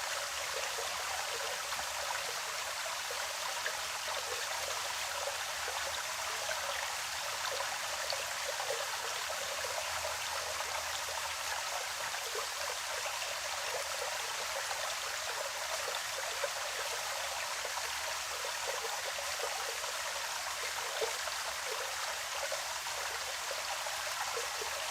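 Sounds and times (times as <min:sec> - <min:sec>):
stream trickling and bubbling: 0:00.0 - 0:24.9.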